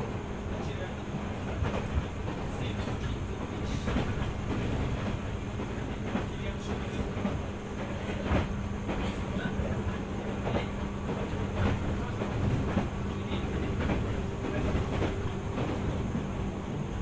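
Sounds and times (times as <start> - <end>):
train rumble and hum: 0.0 - 17.0
train wheels clicking on rail joints: 0.6 - 16.8.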